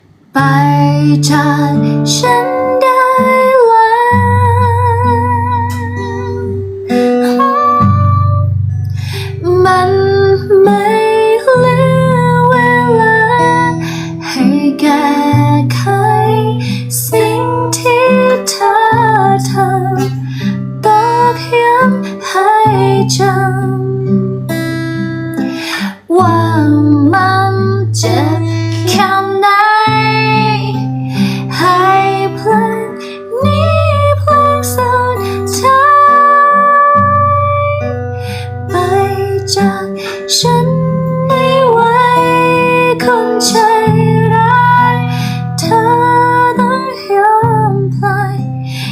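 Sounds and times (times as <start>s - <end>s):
guitar accompaniment: 0.0s - 48.9s
woman singing: 0.3s - 48.9s.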